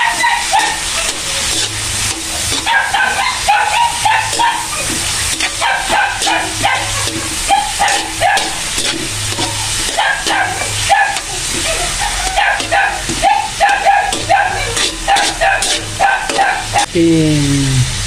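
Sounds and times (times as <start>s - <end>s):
food sizzling in oil: 0.0s - 16.9s
spatula scraping metal pan: 0.0s - 16.9s.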